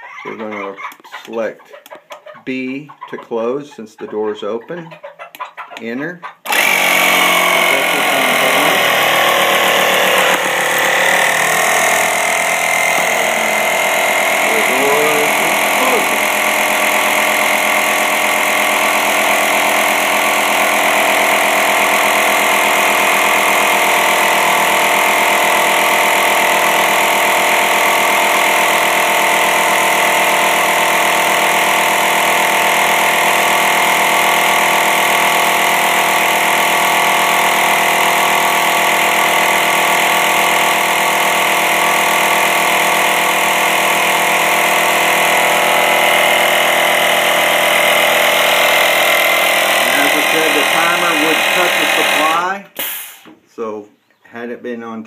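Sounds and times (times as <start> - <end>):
air compressor running: 6.4 - 53.4.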